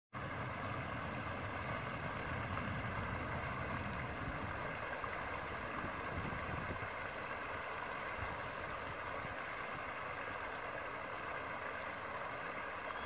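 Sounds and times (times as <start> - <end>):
water rushing over weir: 0.2 - 13.0.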